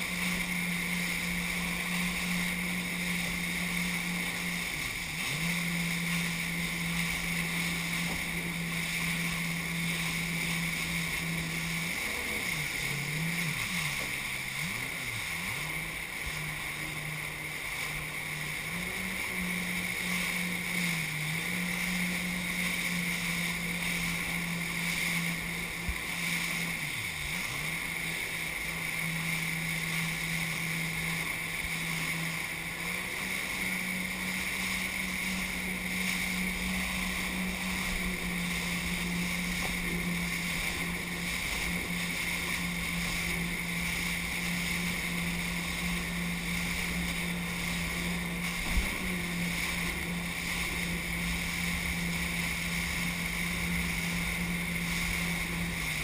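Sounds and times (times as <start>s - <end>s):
jet ski engine running: 0.0s - 56.0s
water rushing against hull: 0.0s - 56.0s.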